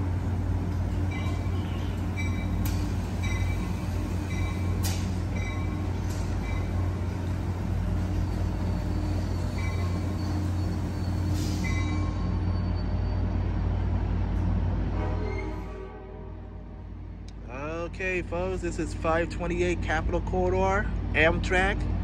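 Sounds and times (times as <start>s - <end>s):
diesel locomotive humming: 0.0s - 22.0s.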